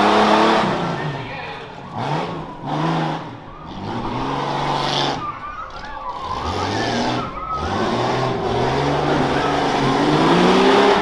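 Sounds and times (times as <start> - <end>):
racing engine revving: 0.0 - 11.0.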